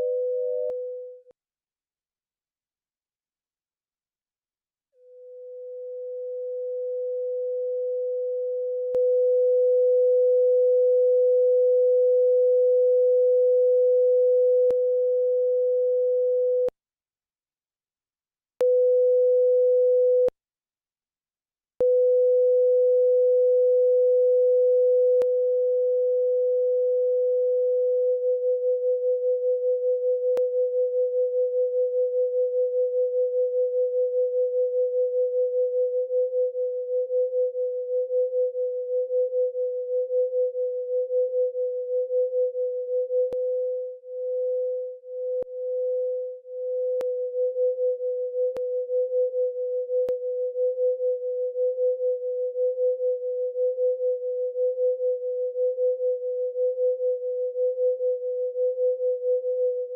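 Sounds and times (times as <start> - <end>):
steady sine tone: 0.0 - 1.4, 5.0 - 16.7, 18.6 - 20.3, 21.8 - 59.9.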